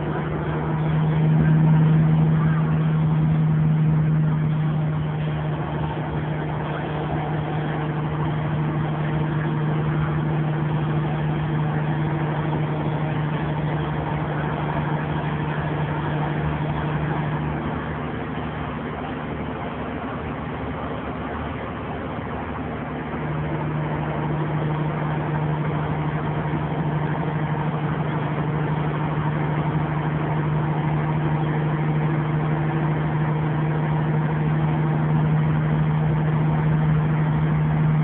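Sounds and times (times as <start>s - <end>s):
diesel truck engine droning: 0.0s - 38.0s.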